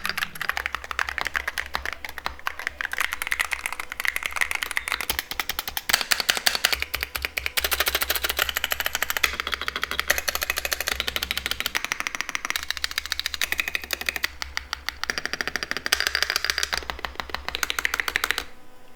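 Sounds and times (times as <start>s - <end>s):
fast typing on keyboard: 0.0s - 18.5s.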